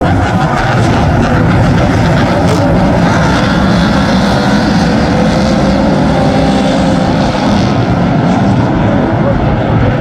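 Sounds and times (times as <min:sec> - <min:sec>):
race car engines roaring: 0:00.0 - 0:10.0.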